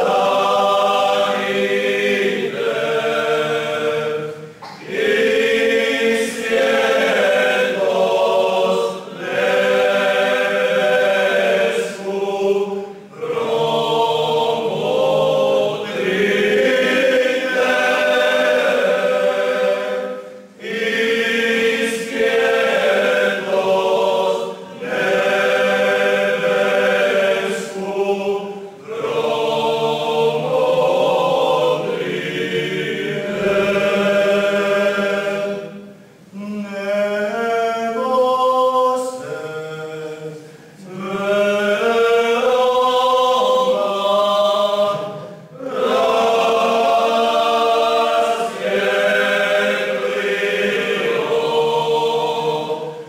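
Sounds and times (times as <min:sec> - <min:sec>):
male vocal group singing a cappella: 0:00.0 - 0:53.0.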